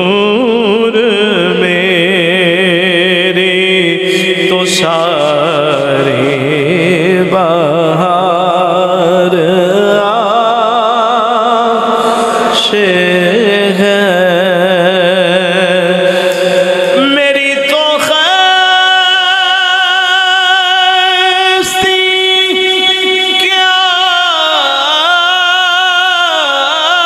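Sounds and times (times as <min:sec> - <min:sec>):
man singing into a microphone: 0:00.0 - 0:27.0.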